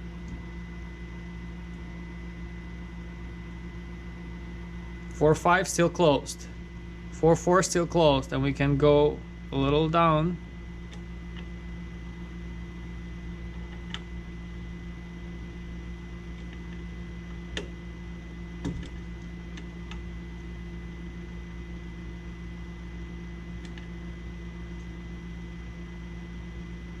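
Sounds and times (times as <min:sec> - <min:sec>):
small air pump humming: 0:00.0 - 0:27.0.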